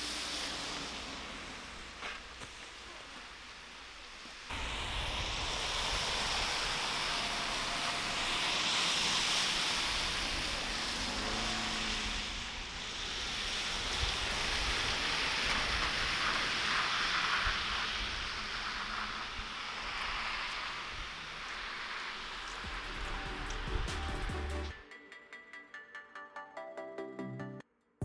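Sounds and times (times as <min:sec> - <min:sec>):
tyres hissing on road: 0:00.0 - 0:24.8.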